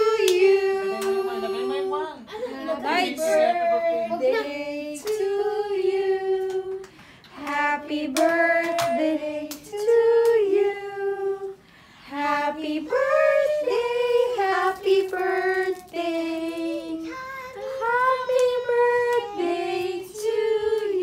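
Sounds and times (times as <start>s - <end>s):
children and women singing: 0.0s - 21.0s.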